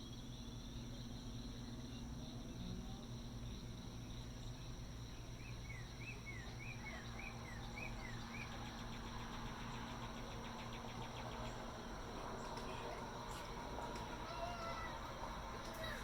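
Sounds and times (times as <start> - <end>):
fast pulsing insect trill: 0.0 - 16.0
insect chorus: 0.0 - 16.0
low machinery hum: 0.0 - 16.0.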